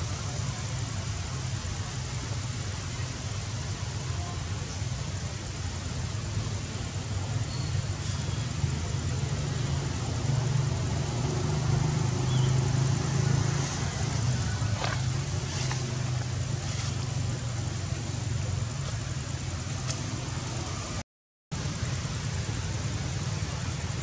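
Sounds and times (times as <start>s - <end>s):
engine rumbling: 0.0s - 24.0s.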